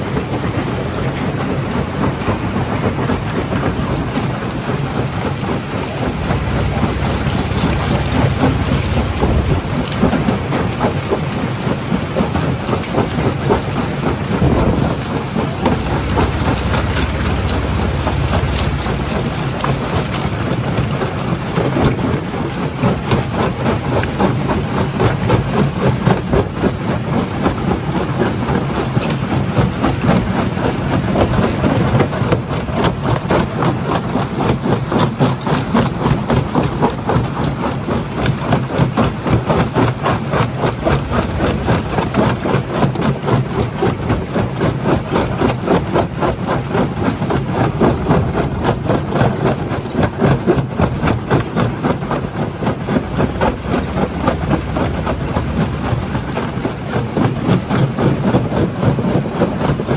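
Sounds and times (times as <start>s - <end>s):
heavy machine drone: 0.0s - 28.8s, 39.0s - 59.2s.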